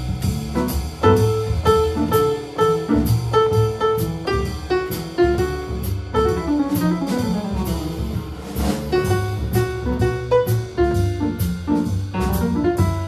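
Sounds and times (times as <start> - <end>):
drum kit cymbals: 0.0 - 13.0
piano chords and runs: 0.0 - 13.0
walking double bass: 0.0 - 13.0.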